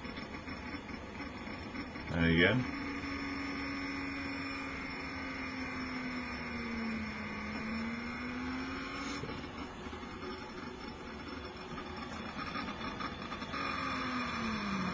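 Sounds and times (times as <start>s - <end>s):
motor whine: 0.0s - 14.9s.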